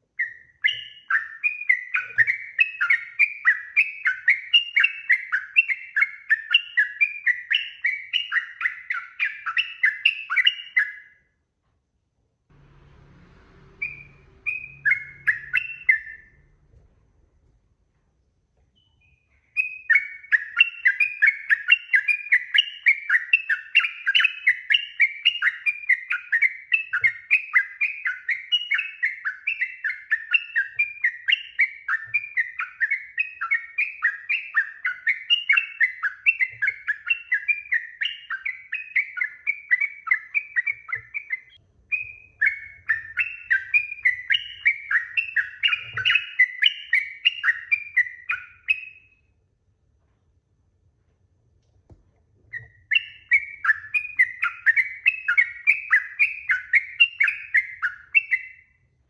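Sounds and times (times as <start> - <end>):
bird chirping: 0.0 - 11.3, 12.5 - 16.9, 18.6 - 49.4, 52.2 - 59.0.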